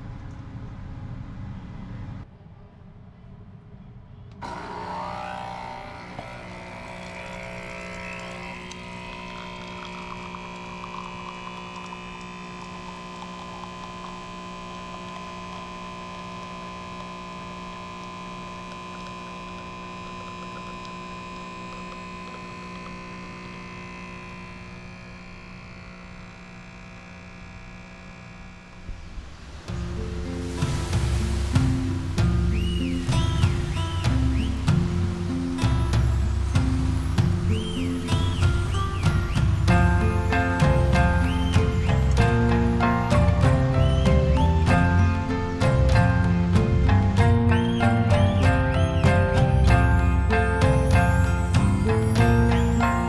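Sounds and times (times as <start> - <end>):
high steady whine: 3.4 - 53.0
machine hum: 4.3 - 53.0.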